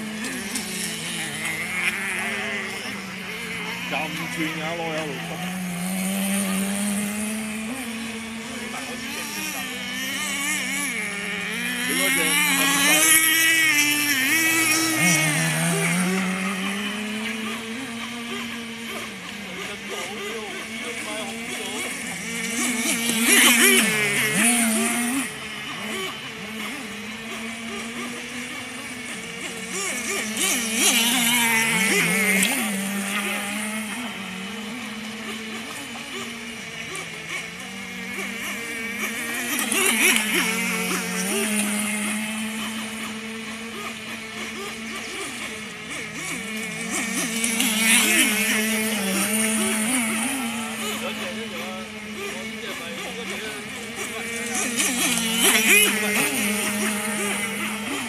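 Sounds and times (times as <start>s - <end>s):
model speedboat motor whine: 0.0s - 58.0s.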